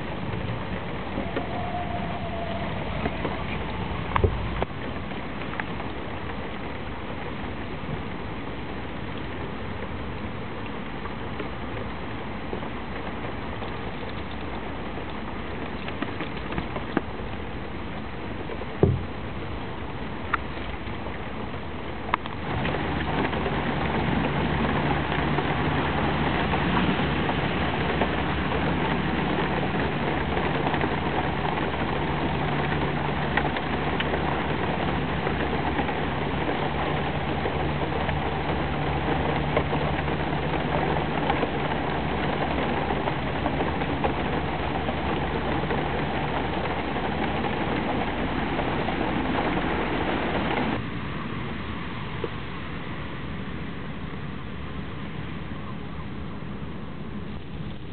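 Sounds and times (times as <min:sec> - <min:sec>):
constant low hum: 0:00.0 - 0:57.9
steady rain hiss: 0:00.0 - 0:57.9.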